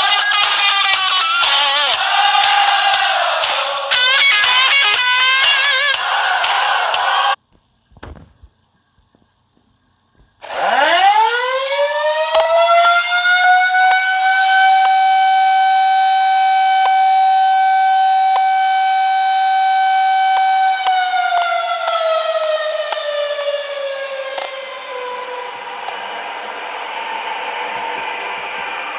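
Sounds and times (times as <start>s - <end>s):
mechanical siren wailing: 0.0s - 3.0s, 3.8s - 6.0s, 10.4s - 28.9s.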